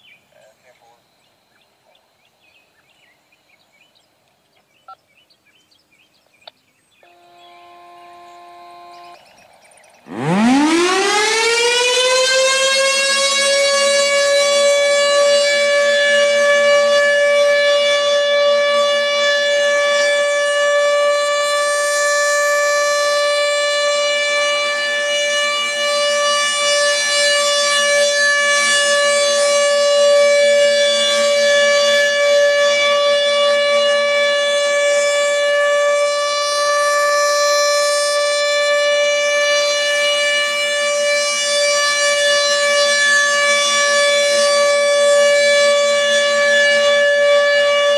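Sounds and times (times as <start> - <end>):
civil defense siren steady tone: 6.6 - 47.9.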